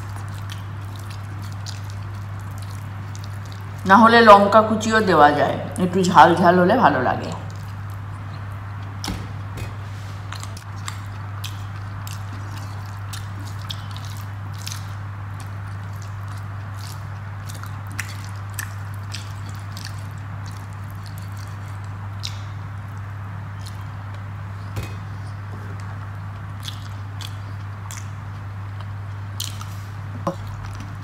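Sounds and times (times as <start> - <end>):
wet chewing: 0.0 - 3.9, 7.4 - 9.1, 10.2 - 31.0
steady low hum: 0.0 - 31.0.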